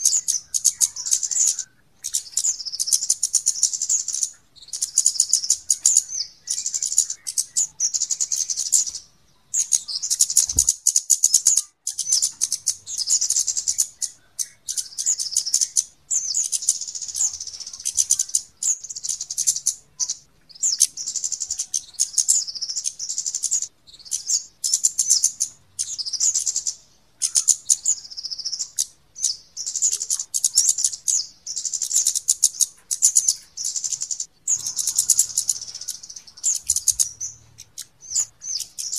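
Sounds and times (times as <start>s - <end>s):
bird chattering ticks: 0.0s - 9.0s, 9.6s - 38.9s.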